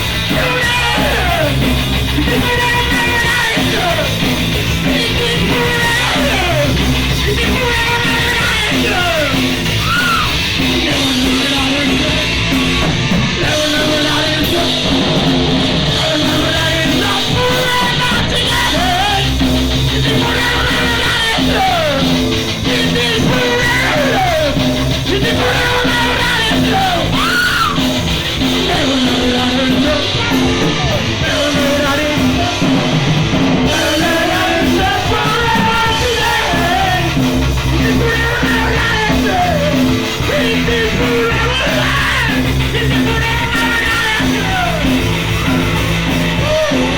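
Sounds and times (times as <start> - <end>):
punk rock band playing live: 0.0 - 46.9
singer singing and yelling: 0.0 - 46.9.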